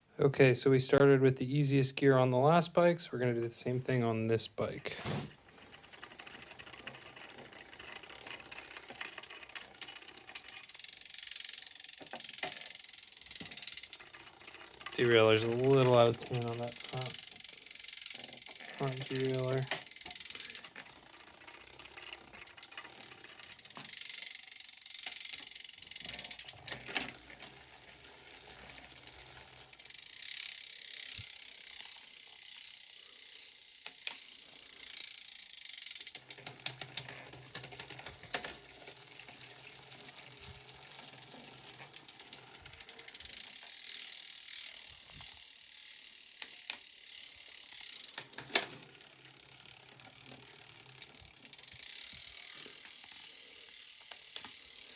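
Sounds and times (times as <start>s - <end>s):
bike chain whirring: 3.9s - 54.9s.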